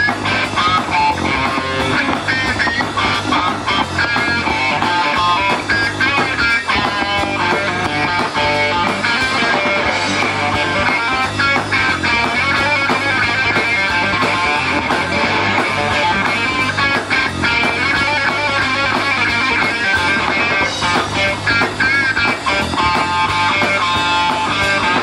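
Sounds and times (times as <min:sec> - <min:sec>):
electric guitar: 0:00.0 - 0:25.0
rock band playing: 0:00.0 - 0:25.0
steady drum beat: 0:00.0 - 0:25.0.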